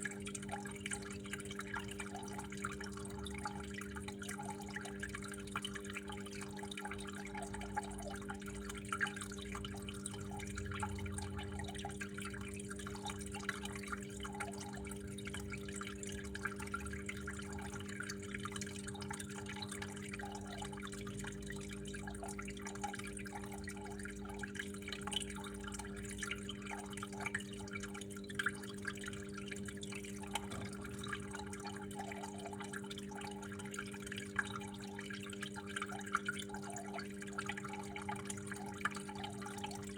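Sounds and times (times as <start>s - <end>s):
water flowing and dripping: 0.0s - 39.9s.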